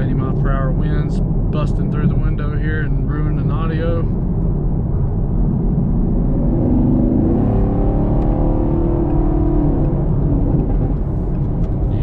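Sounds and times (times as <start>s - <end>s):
car engine exhaust note: 0.0s - 12.0s
wind buffeting through window: 0.0s - 12.0s.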